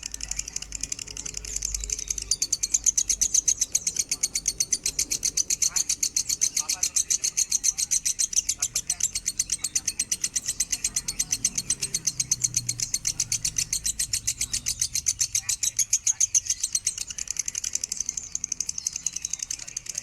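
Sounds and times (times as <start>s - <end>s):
lovebird chattering song: 0.0s - 20.0s.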